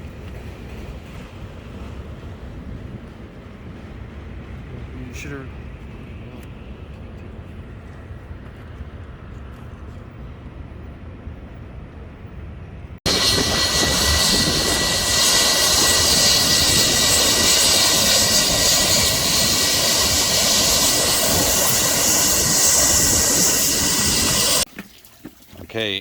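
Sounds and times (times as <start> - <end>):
jet engine roar with whine: 0.0 - 24.7.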